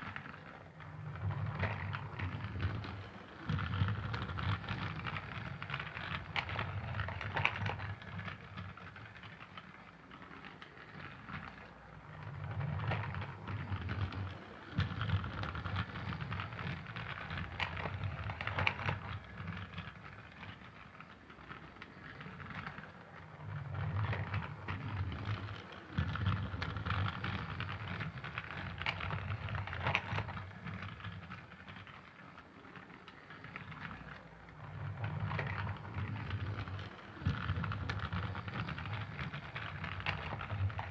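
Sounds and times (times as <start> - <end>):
toy train motor rumble: 0.0 - 40.9
toy train wheels clicking: 0.0 - 40.9.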